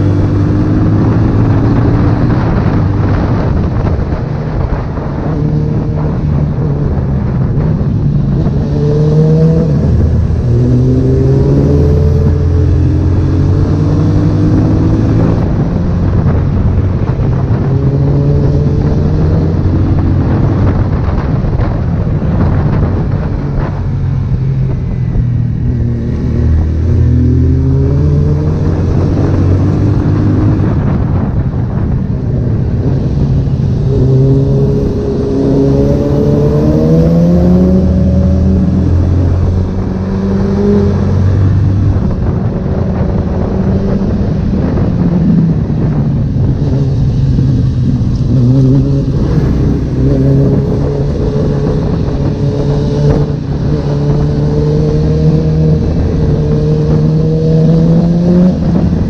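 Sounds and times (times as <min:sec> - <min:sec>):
motorcycle engine accelerating: 0:00.0 - 0:59.0
steady rush of noise: 0:00.0 - 0:59.0.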